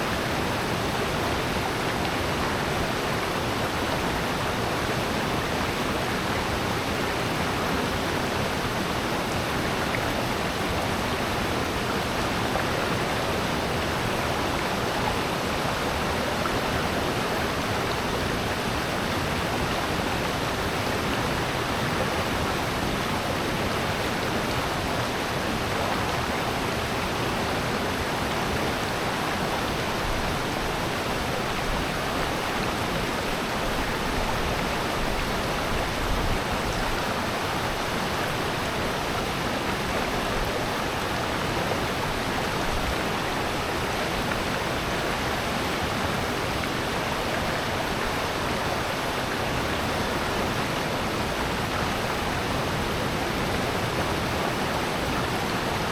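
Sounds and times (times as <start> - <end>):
stream and waterfall rushing: 0.0 - 55.9.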